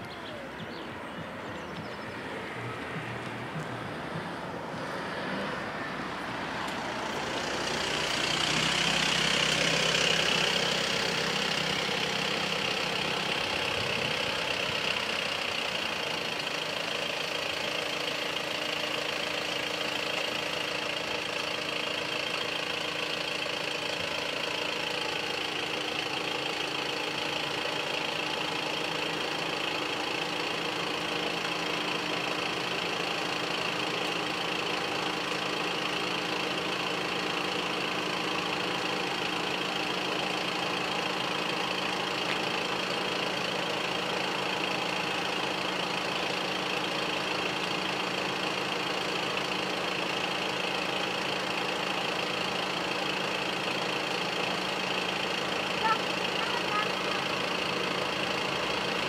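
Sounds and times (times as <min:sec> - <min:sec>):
car engine idling: 0:00.0 - 0:59.0
car pulling up: 0:00.0 - 0:59.0.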